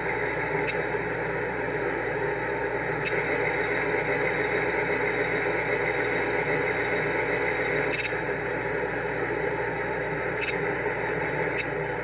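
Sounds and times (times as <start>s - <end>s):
diesel engine drone from speaker: 0.0s - 12.0s.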